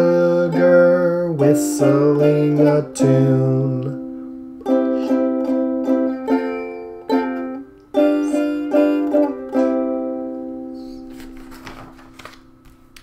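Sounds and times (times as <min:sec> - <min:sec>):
strummed string instrument chords: 0:00.0 - 0:10.9.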